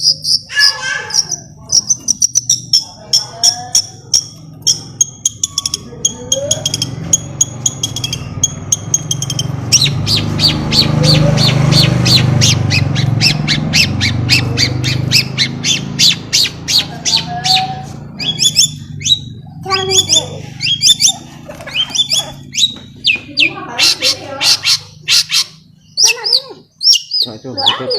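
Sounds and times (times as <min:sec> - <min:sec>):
shrike calling harsh notes: 0:00.0 - 0:27.9.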